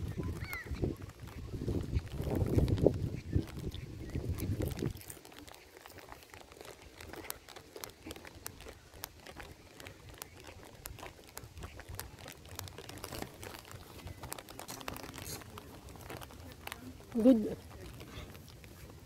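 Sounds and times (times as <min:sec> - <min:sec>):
footsteps on gritty asphalt: 0:00.0 - 0:19.0.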